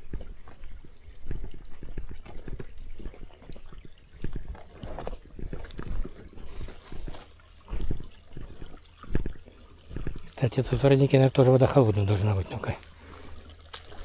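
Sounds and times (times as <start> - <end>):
footsteps on a trail: 0.0 - 10.4, 12.6 - 14.0.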